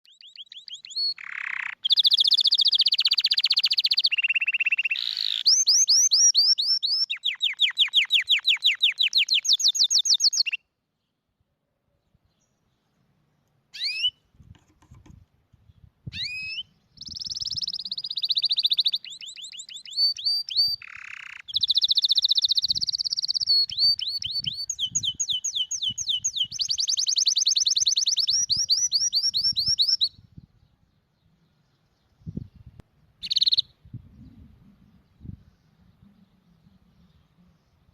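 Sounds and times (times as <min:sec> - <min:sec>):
canary singing trills: 0:00.0 - 0:10.7, 0:13.7 - 0:14.2, 0:16.1 - 0:37.9.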